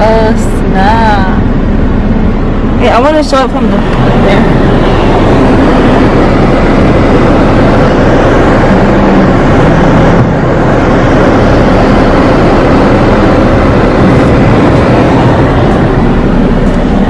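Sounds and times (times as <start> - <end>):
road vehicle rumbling: 0.0 - 17.0.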